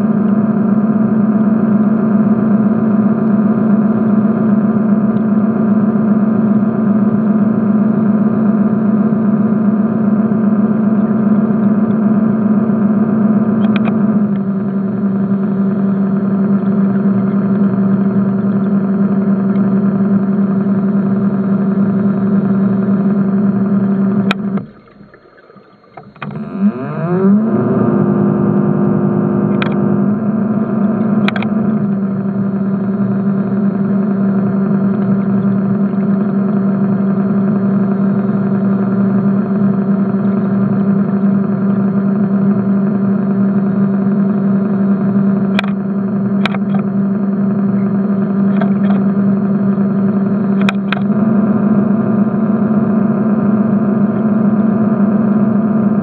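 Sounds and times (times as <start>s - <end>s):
underwater motor hum: 0.0s - 56.0s.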